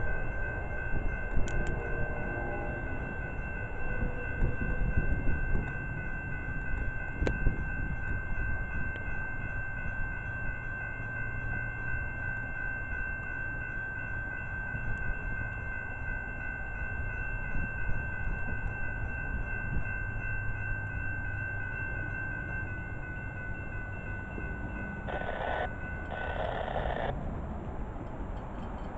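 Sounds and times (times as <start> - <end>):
railroad crossing bell ringing: 0.0 - 27.2.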